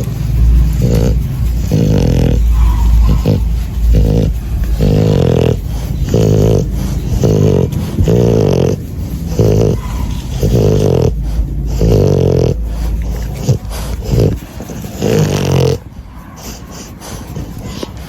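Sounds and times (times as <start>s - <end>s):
dog-like animal calls: 0.0s - 18.0s
steady low rumble: 0.0s - 18.0s.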